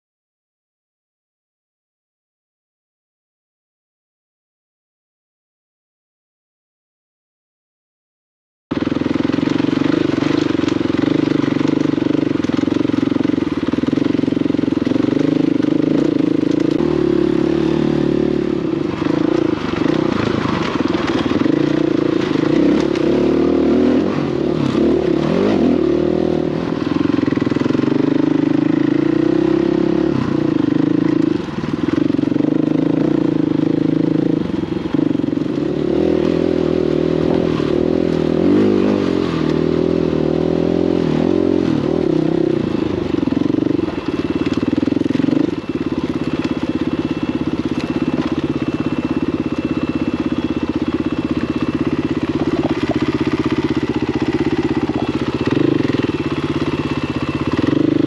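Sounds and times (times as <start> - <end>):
dirt bike engine revving: 8.7 - 58.0.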